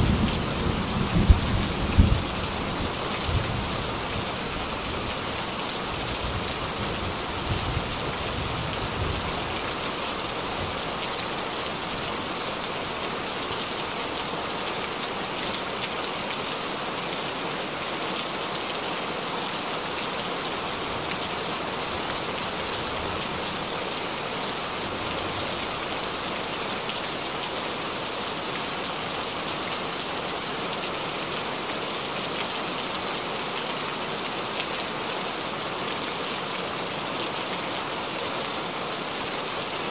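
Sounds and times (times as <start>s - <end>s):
heavy rain on water and leaves: 0.0s - 39.9s.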